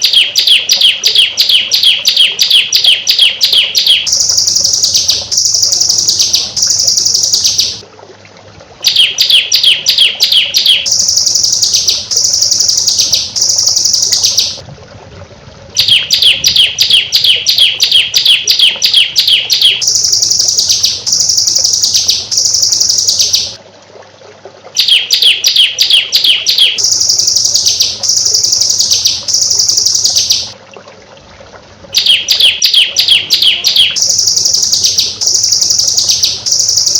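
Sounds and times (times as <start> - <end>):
recorded songbird song: 0.0 - 7.8, 8.8 - 14.6, 15.8 - 23.6, 24.8 - 30.6, 31.9 - 36.9.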